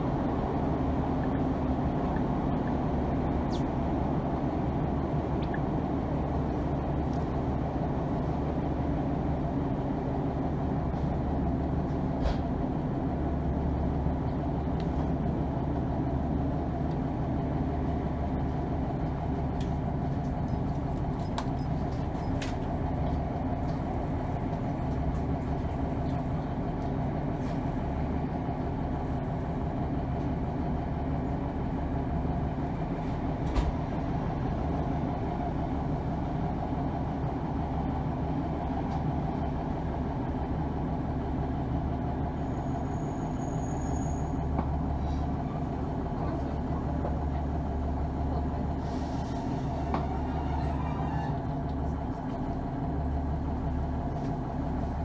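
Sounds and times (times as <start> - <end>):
diesel engine drone: 0.0 - 55.0
train wheel and rail noise: 0.0 - 55.0.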